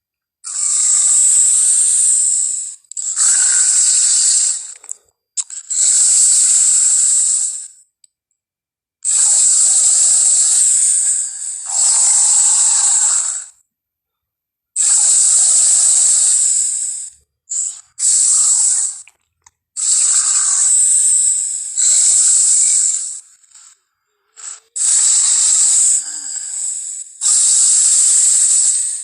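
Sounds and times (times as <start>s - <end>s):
loud breathy creature hissing: 0.5s - 7.8s, 9.0s - 13.6s, 14.8s - 19.1s, 19.8s - 29.0s.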